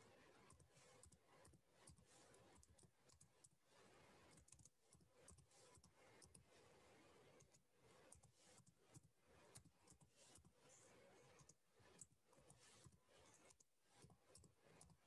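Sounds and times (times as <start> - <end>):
faint keyboard typing: 0.2 - 15.0.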